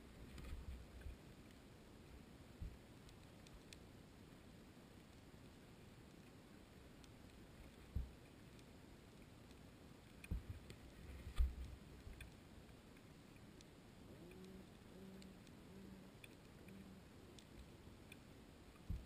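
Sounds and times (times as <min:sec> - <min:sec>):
faint clicks: 0:00.2 - 0:04.3, 0:04.9 - 0:19.0.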